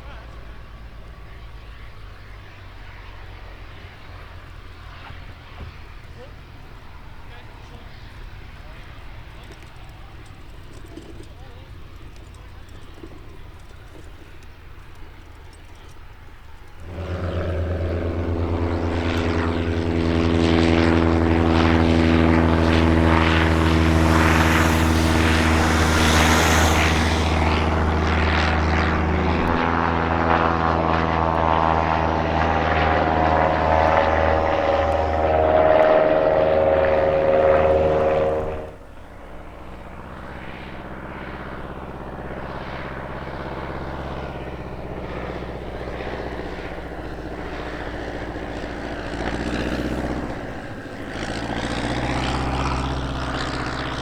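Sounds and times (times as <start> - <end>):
distant aircraft engine drone: 0.0 - 54.0
propeller aircraft engine passing: 0.0 - 54.0.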